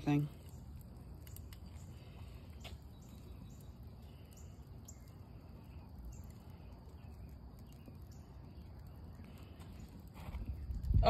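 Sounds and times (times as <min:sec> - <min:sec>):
fire rumbling: 0:00.0 - 0:11.0
sharp crack of fire: 0:00.0 - 0:11.0.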